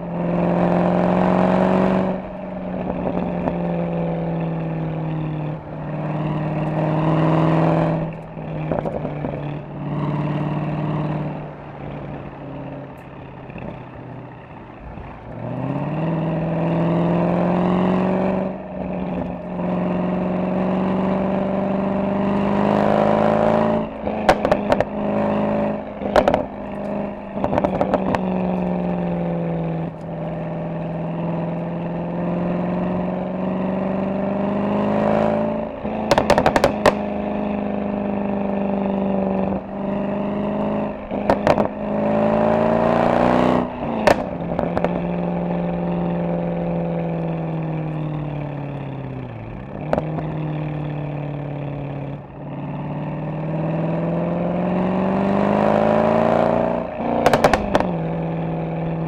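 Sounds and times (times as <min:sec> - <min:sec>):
exhaust crackles: 0:00.0 - 0:34.2, 0:34.9 - 0:55.1, 0:55.7 - 0:59.0
car engine revving: 0:00.0 - 0:59.0.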